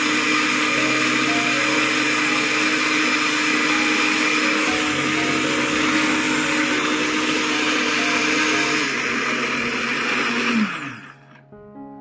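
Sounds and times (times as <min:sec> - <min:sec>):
blender motor spinning down: 0:00.0 - 0:11.4
blender running: 0:00.0 - 0:11.4.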